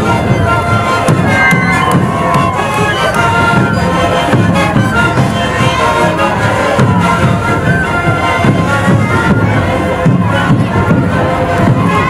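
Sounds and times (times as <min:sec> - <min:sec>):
bass drum beat: 0:00.0 - 0:12.0
panpipes playing together: 0:00.0 - 0:12.0.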